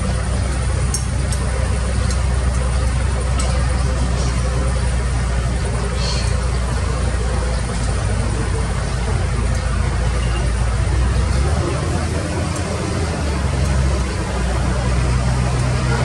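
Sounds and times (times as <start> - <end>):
diesel engine humming: 0.0 - 16.0.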